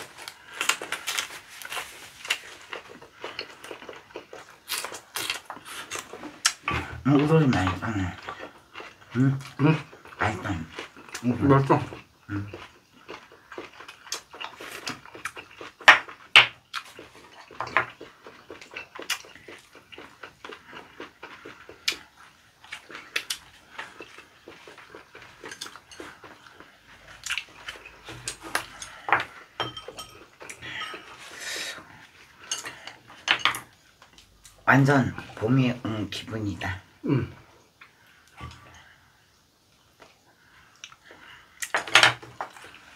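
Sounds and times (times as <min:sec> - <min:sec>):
chewing with wet crunches: 0:00.0 - 0:42.9.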